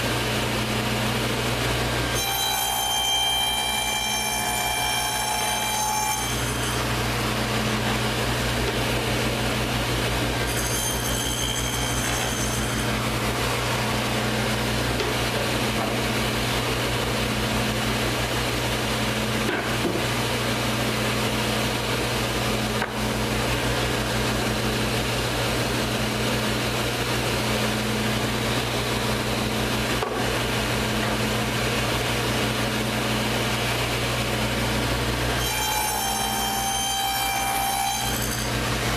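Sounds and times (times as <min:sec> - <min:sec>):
table saw cutting wood: 0:00.0 - 0:38.9.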